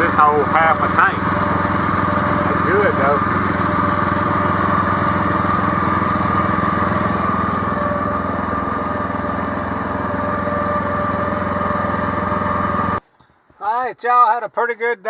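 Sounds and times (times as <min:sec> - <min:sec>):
small engine running: 0:00.0 - 0:13.0
steady high whine: 0:00.0 - 0:13.6.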